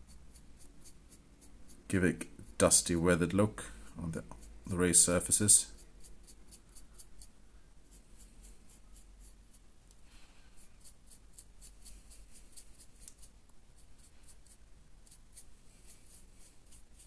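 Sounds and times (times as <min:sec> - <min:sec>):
dry brush scratching: 0:00.0 - 0:17.0.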